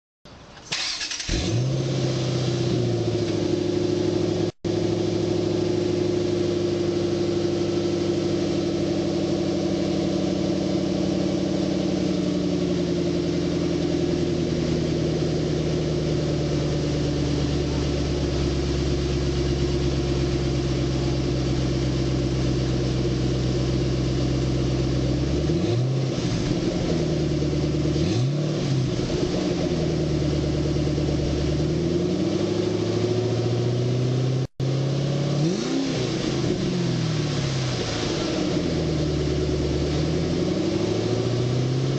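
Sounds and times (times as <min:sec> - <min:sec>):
car engine starting and idling: 0:00.3 - 0:41.9
engine throttle blips: 0:00.6 - 0:41.9.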